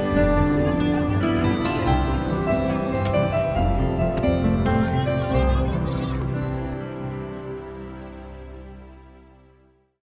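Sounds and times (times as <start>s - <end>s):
soft music with sustained notes: 0.0s - 10.0s.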